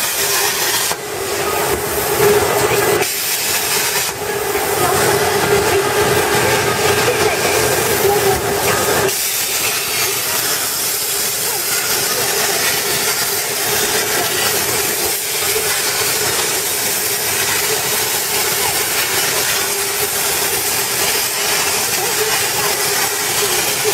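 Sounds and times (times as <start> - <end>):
plasma torch hissing: 0.0 - 23.9.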